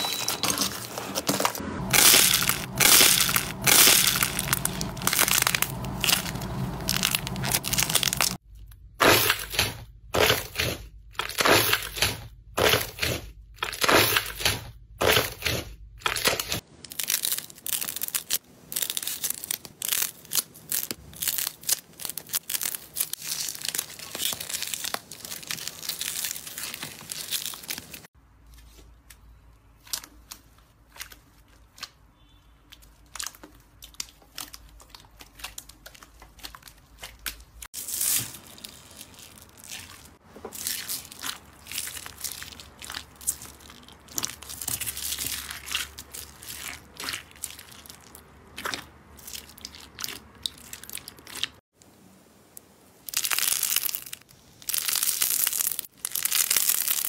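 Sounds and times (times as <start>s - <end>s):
slime crackling and popping: 1.9s - 8.4s, 9.0s - 28.0s, 32.8s - 51.6s, 53.0s - 57.0s.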